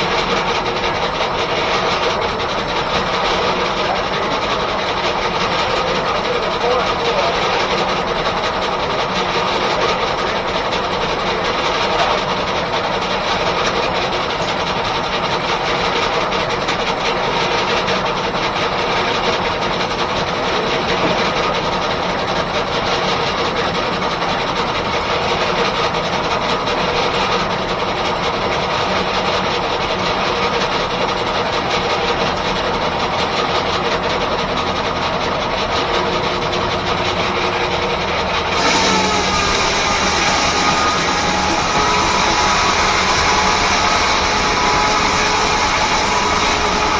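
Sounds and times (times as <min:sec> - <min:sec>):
sawmill mechanical clatter: 0:00.0 - 0:46.9.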